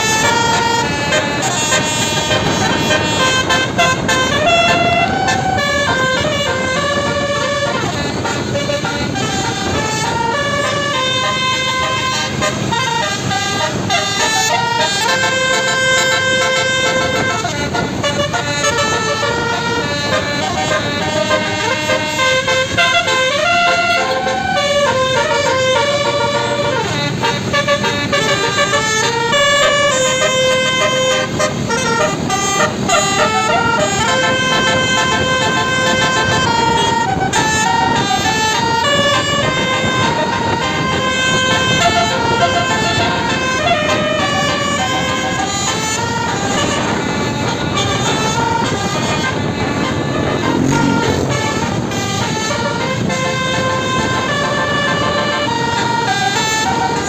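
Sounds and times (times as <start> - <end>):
bus horn playing a melody: 0.0 - 57.0.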